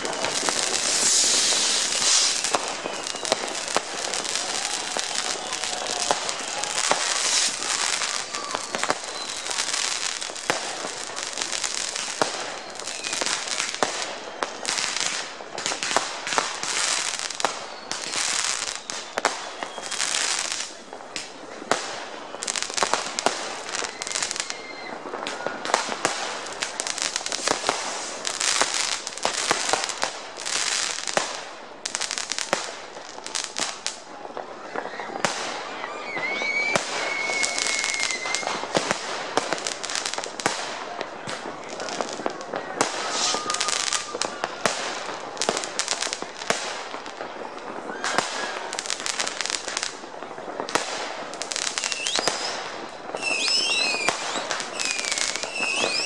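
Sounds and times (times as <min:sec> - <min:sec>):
whistling rocket: 0:00.0 - 0:30.0, 0:34.6 - 0:40.6, 0:41.2 - 0:46.7, 0:47.4 - 0:49.3, 0:51.5 - 0:56.0
firecracker bangs: 0:00.0 - 0:31.5, 0:36.6 - 0:56.0
fireworks crackle: 0:00.0 - 0:56.0.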